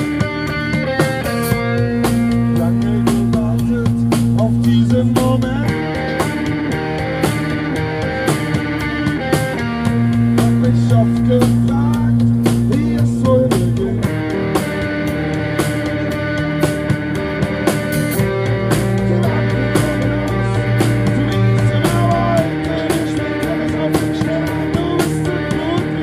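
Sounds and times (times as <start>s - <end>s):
drums playing steadily: 0.0s - 26.0s
electric guitar sustained notes: 0.0s - 26.0s.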